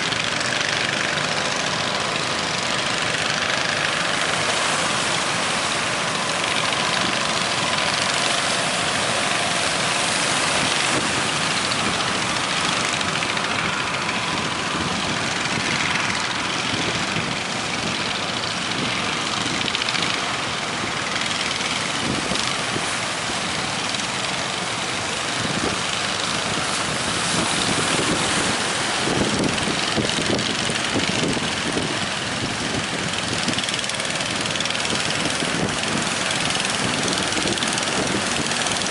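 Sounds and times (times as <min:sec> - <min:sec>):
boat engine running: 0:00.0 - 0:38.9
strong wind: 0:00.0 - 0:38.9
waves: 0:00.0 - 0:38.9.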